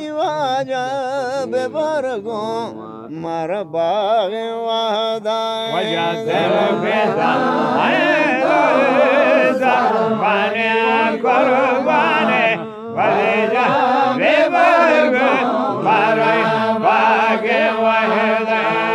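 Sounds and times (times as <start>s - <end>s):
men singing devotional chant: 0.0s - 18.9s.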